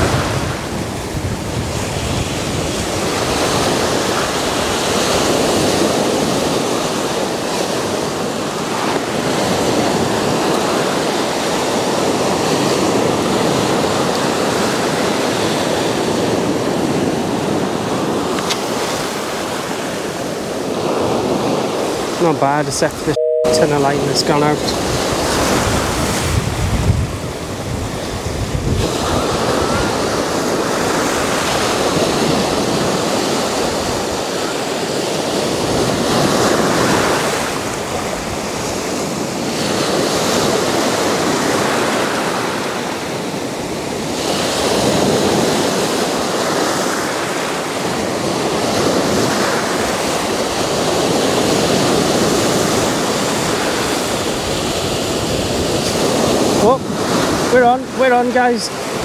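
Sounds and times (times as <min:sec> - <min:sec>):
waves breaking on beach: 0:00.0 - 0:23.0, 0:24.0 - 0:59.0.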